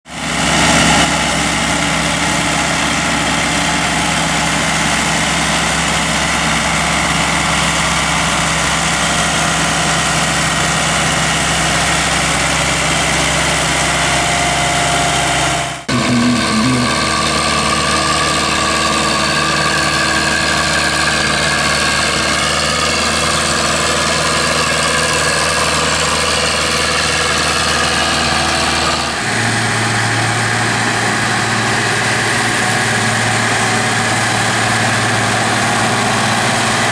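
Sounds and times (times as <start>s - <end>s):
steady engine sound: 0.1s - 36.9s
tractor engine running loud: 0.1s - 36.9s.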